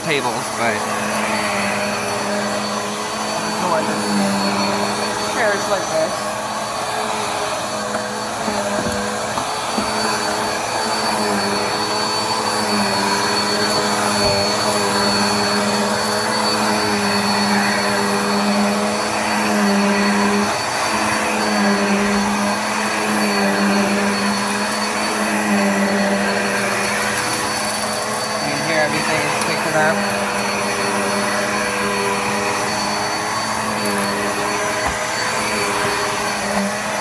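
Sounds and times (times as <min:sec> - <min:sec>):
upright vacuum running: 0:00.0 - 0:37.0.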